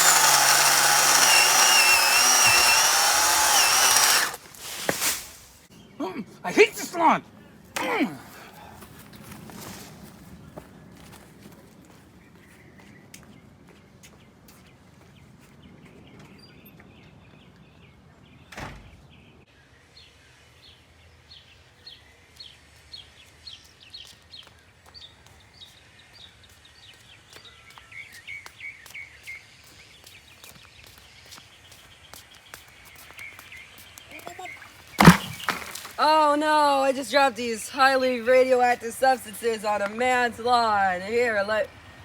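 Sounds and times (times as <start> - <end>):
faint outdoor background noise: 3.9 - 42.0.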